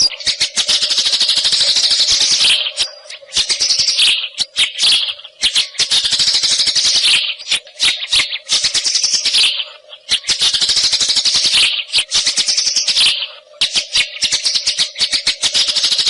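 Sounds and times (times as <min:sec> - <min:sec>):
bird singing rapid chattering phrases: 0:00.0 - 0:16.0.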